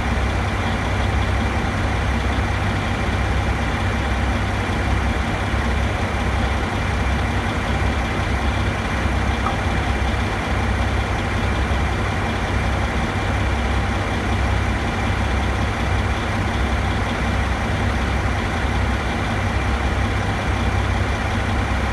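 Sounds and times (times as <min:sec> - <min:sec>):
heavy machinery engine idling: 0:00.0 - 0:21.9.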